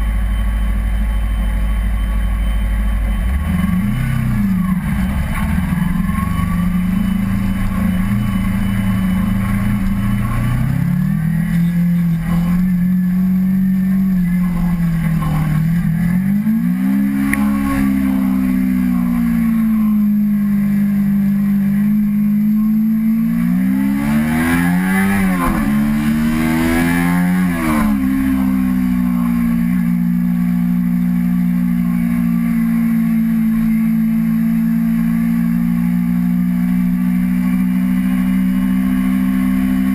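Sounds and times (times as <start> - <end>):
motorcycle engine revving: 1.8 - 39.9.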